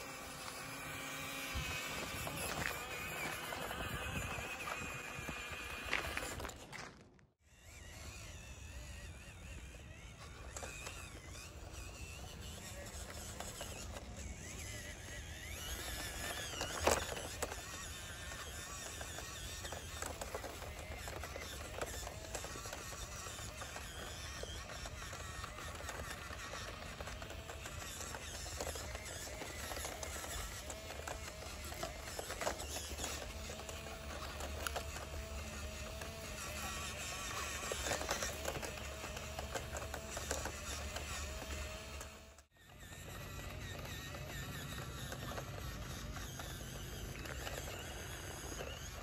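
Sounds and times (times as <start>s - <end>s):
tyres crunching dry leaves: 0.0s - 42.2s
electric motor and gears whining: 0.0s - 49.0s.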